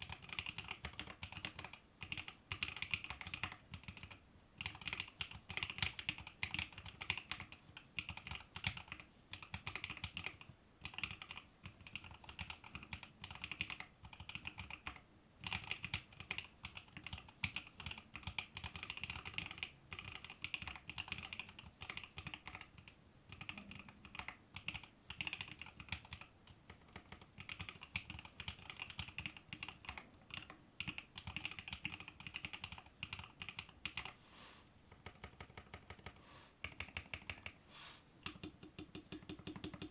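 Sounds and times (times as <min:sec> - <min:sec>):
mechanical keyboard typing: 0:00.0 - 0:34.2, 0:34.9 - 0:37.6, 0:38.2 - 0:39.9.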